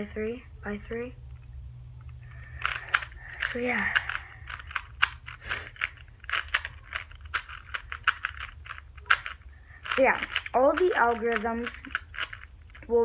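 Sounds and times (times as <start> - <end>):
puzzle cube layers clicking: 2.4 - 12.9.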